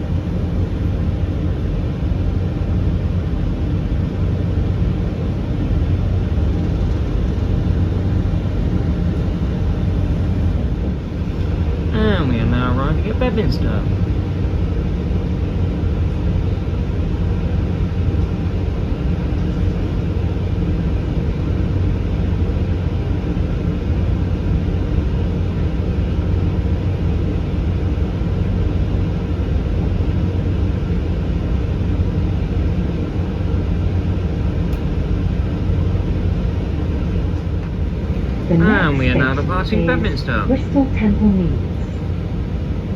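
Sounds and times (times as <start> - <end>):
train diesel engines idling: 0.0 - 42.9.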